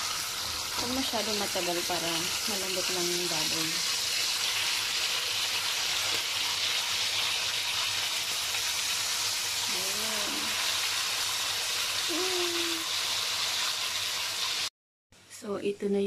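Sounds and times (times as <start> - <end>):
meat sizzling in hot oil: 0.0 - 14.7.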